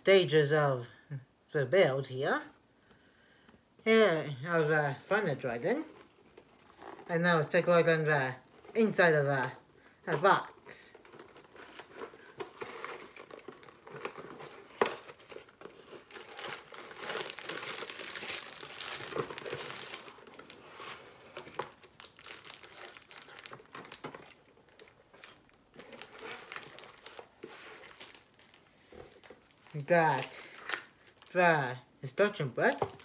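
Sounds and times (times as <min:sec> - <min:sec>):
crinkling plastic bags and paper: 0:04.9 - 0:33.0.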